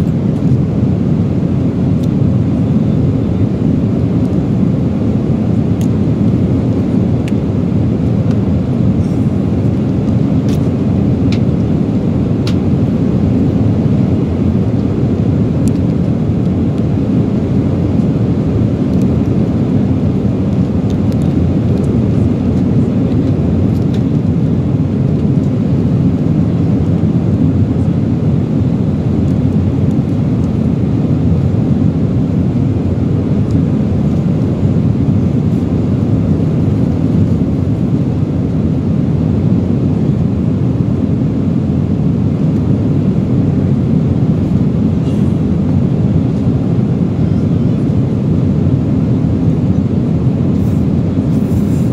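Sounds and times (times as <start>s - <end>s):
jet airliner cabin roar: 0.0s - 51.9s.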